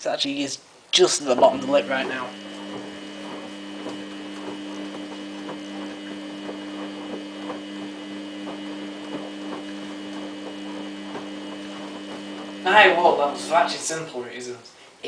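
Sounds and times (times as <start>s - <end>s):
washing machine hum: 1.0s - 14.2s.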